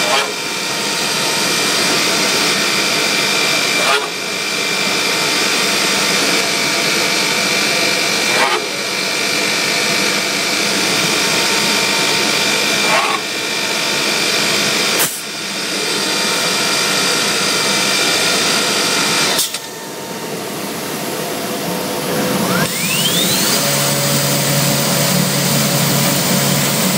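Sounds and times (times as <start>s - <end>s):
machine whirring and hissing: 0.0s - 26.9s
router spindle whine rising: 0.0s - 26.9s.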